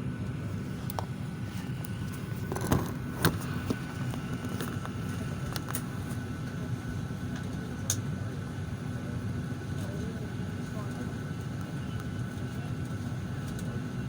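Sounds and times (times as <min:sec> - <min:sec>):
cabin ventilation hum: 0:00.0 - 0:14.0.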